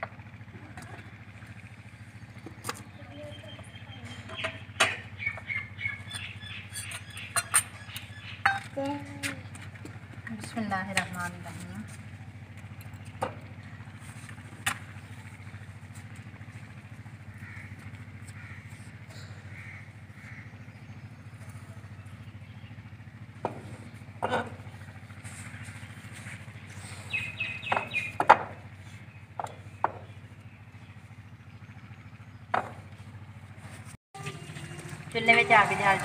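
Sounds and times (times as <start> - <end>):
low mechanical drone: 0.0 - 36.0.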